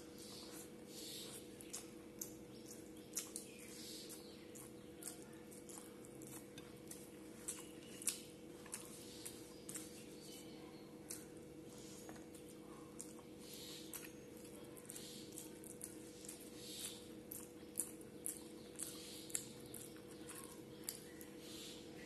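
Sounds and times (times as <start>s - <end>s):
faint steady hum: 0.0s - 22.0s
wet mouth chewing sounds: 0.0s - 22.0s.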